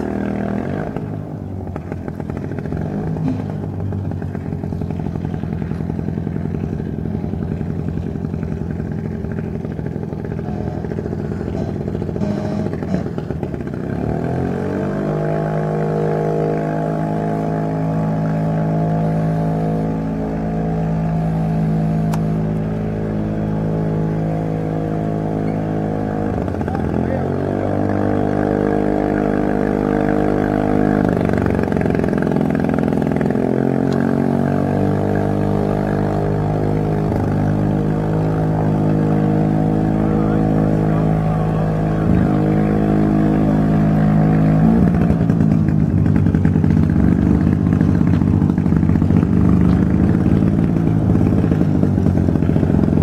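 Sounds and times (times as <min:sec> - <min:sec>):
amphibious vehicle engine running: 0:00.0 - 0:53.0.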